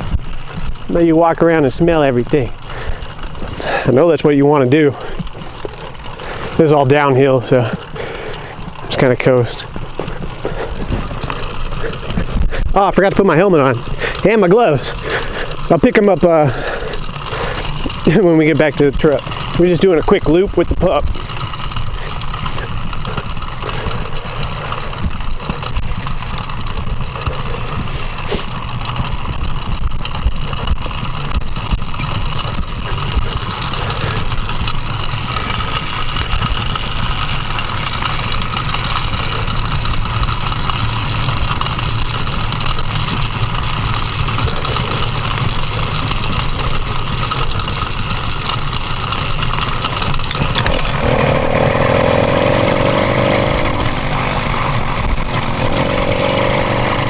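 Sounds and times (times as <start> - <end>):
motorized bicycle engine idling: 0.0 - 57.0.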